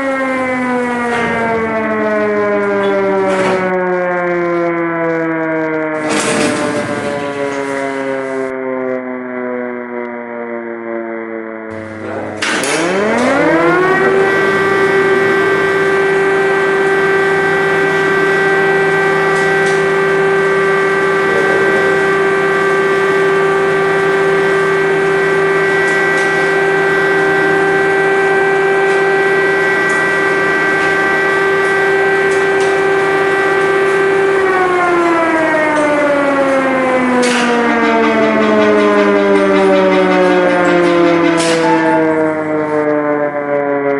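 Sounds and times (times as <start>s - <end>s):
air-raid siren wailing: 0.0s - 43.9s.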